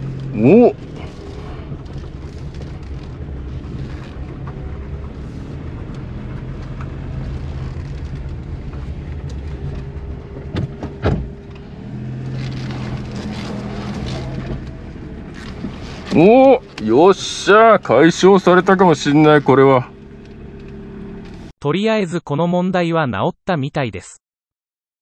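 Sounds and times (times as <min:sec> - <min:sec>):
small car engine running: 0:00.0 - 0:21.5.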